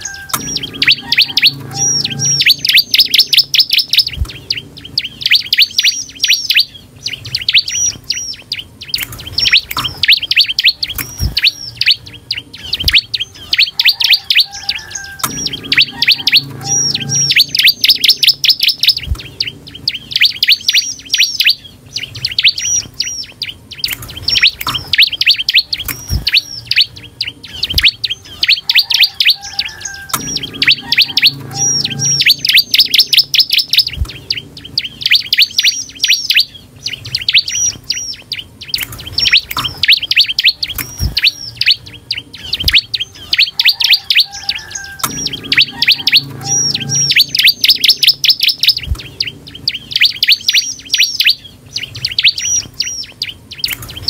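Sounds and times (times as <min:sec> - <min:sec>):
bird high sharp chirping: 0:00.0 - 0:54.0.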